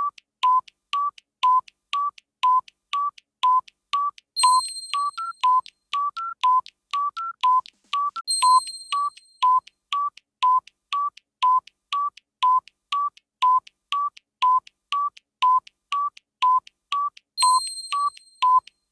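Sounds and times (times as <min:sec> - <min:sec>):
clock ticking: 0:00.0 - 0:18.9.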